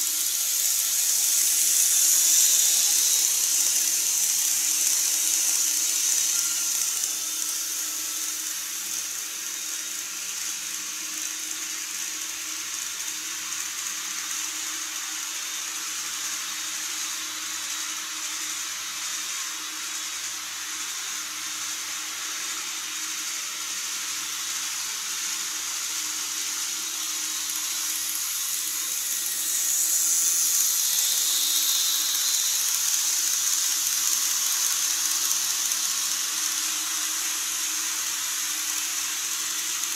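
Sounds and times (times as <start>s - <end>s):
model train whirring: 0.0s - 39.9s.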